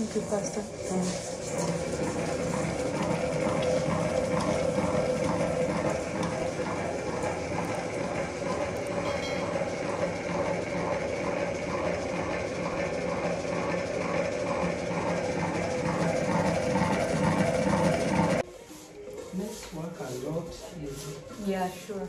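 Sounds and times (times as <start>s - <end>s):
electric stand mixer humming: 0.0s - 19.1s.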